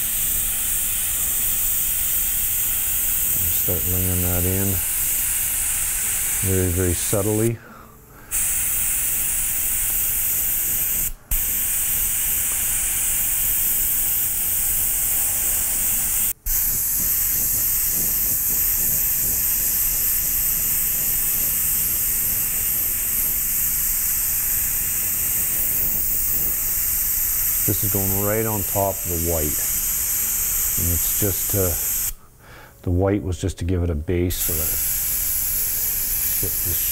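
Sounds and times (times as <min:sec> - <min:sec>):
airbrush hissing: 0:00.0 - 0:32.3, 0:34.3 - 0:36.9.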